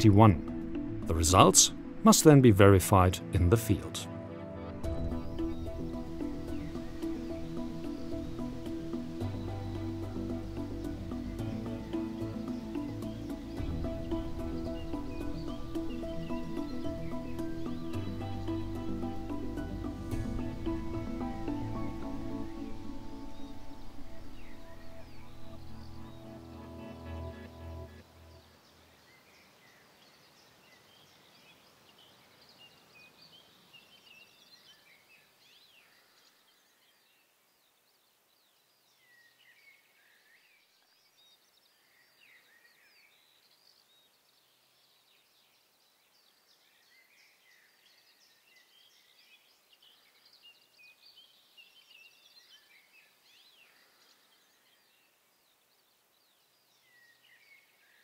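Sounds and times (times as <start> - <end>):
background hiss: 0.0 - 58.0
birds chirping and trilling: 0.0 - 58.0.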